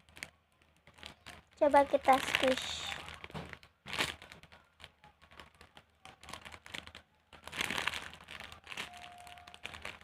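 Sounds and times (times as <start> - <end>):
squishy toy crinkly rustling: 0.0 - 10.0.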